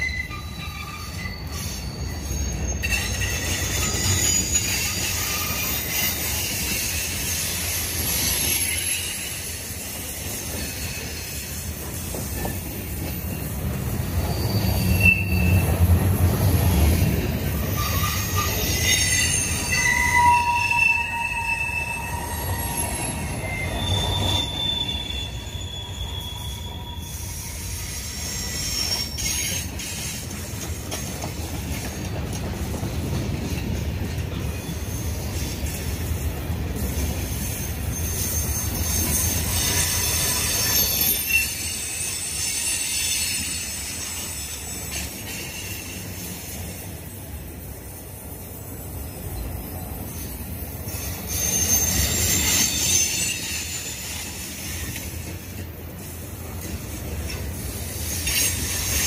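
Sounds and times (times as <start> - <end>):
train wheels squealing: 0.0 - 59.0.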